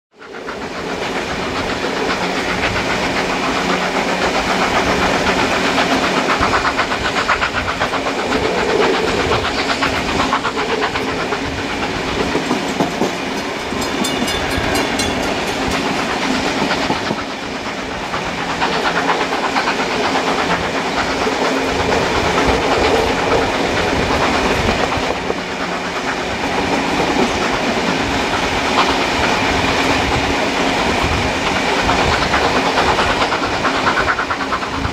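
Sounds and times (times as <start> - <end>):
moving train noise: 0.1 - 34.9
train wheels clickety-clack: 0.1 - 34.9.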